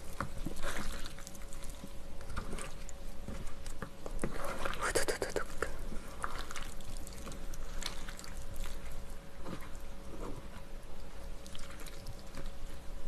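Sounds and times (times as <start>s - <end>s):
wet squishes of noodles mixed: 0.0s - 13.0s.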